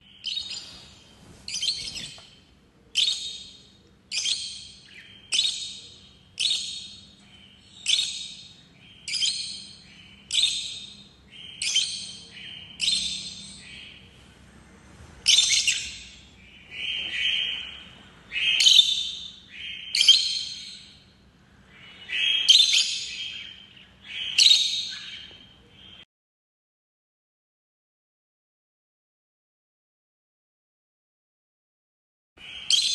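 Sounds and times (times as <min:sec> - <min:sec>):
lovebirds chirping: 0:00.0 - 0:26.0, 0:32.4 - 0:32.9.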